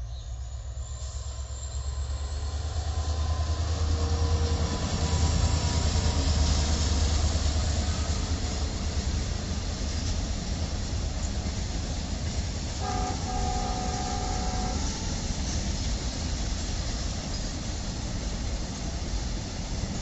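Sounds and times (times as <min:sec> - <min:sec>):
locomotive engine hum: 0:00.3 - 0:20.0.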